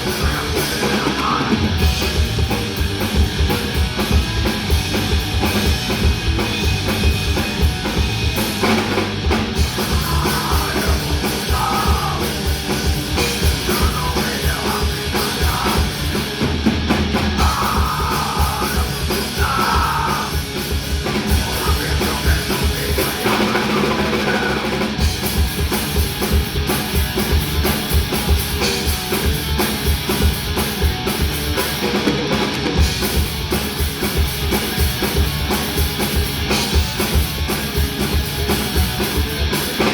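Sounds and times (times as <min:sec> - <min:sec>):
bass guitar: 0:00.0 - 0:39.9
distorted electric guitar: 0:00.0 - 0:39.9
fast drum-kit beats: 0:00.0 - 0:39.9.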